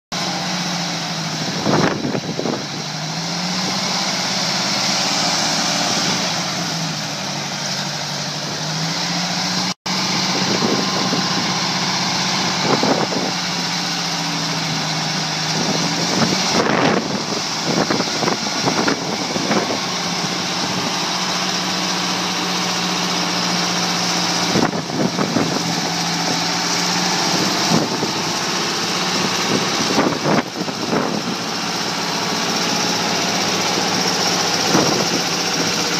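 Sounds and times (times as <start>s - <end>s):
truck diesel engine running: 0.1s - 35.9s.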